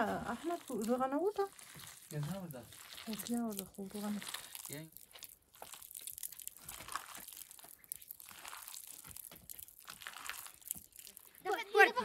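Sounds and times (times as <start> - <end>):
hands mashing food in a bowl: 0.0 - 12.0.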